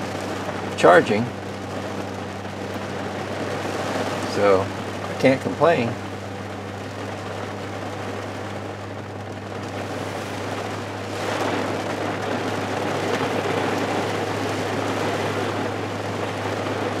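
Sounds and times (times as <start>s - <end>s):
hard rain on a car: 0.0s - 17.0s
steady low hum: 0.0s - 17.0s.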